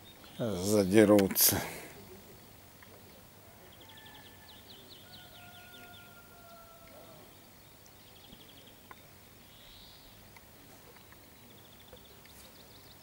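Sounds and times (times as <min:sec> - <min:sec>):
small birds trilling: 0:01.9 - 0:13.0.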